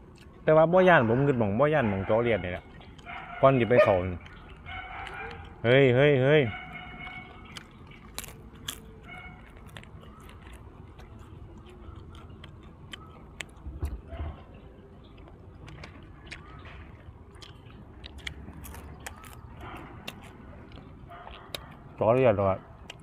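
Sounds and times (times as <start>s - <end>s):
person chewing crunchy food: 0.0s - 0.4s, 2.6s - 5.8s, 6.6s - 23.0s.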